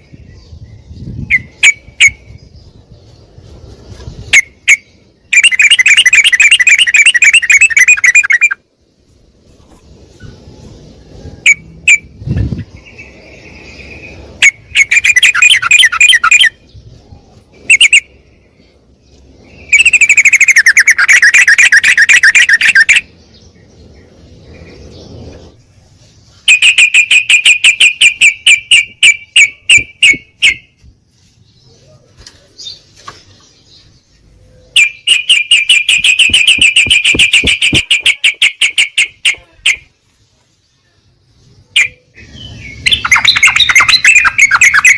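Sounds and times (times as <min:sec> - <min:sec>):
bird chattering song: 0:00.0 - 0:44.9.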